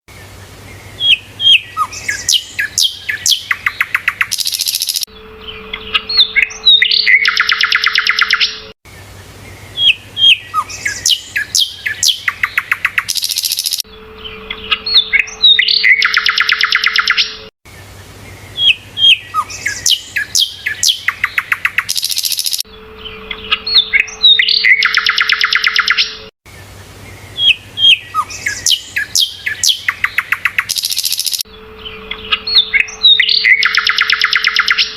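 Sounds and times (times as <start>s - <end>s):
bird chirps and trill: 0.8s - 8.8s, 9.5s - 34.9s.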